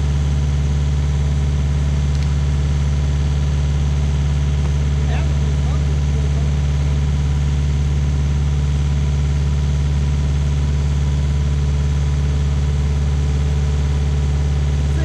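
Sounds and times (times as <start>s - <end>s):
stump grinder engine running: 0.0s - 15.0s.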